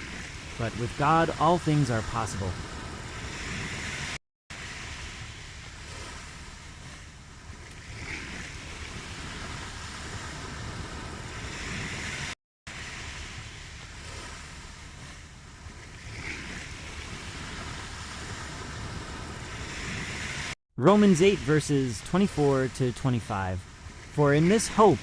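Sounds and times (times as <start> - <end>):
ocean waves washing onto shore: 0.0 - 25.0.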